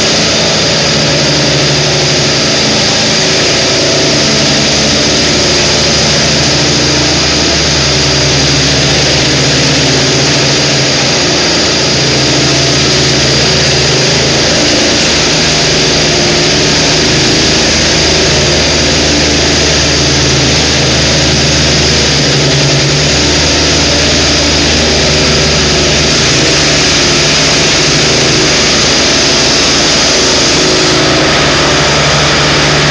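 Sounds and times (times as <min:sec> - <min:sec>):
power trowel engine running: 0:00.0 - 0:32.9
steady high whine: 0:00.0 - 0:32.9.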